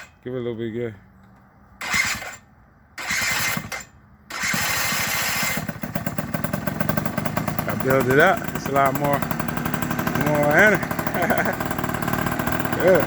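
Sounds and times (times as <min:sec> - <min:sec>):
small motorbike engine starting: 0:01.8 - 0:02.4, 0:03.0 - 0:13.0.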